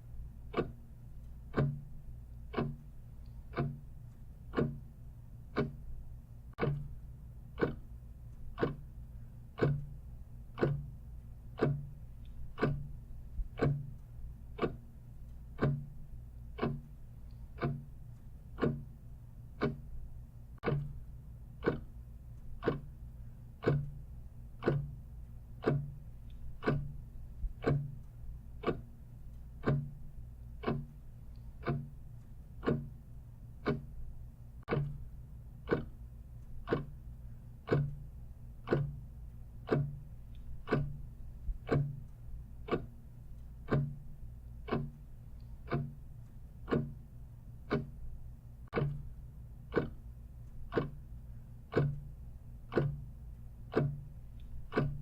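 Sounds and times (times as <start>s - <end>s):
low steady hum: 0.0s - 55.0s
mechanical clock ticking: 0.0s - 55.0s.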